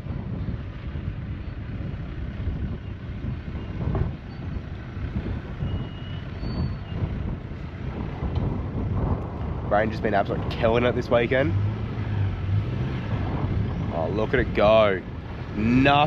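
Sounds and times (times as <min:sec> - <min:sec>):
engine rumbling under load: 0:00.0 - 0:16.0.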